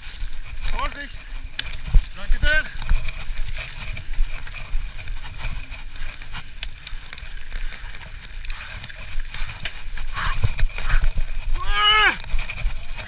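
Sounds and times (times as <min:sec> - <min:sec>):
bike knocking and rattling: 0:00.0 - 0:13.0
bike tyres rumbling on gravel: 0:00.0 - 0:13.0
wind on camera: 0:00.0 - 0:13.0.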